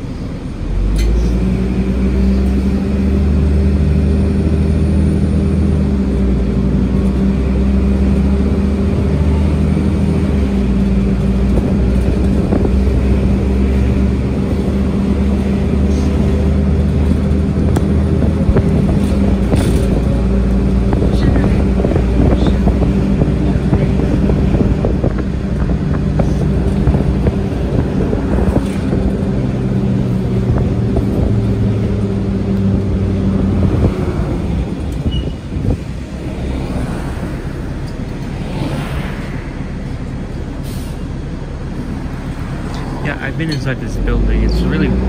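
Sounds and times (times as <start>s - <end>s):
bus diesel engine: 0.0s - 45.0s
drivetrain whine: 0.0s - 45.0s.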